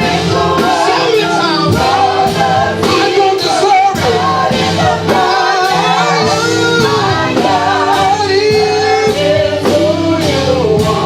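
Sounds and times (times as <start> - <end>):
band with steady drum beat: 0.0 - 11.0
singers singing gospel: 0.0 - 11.0.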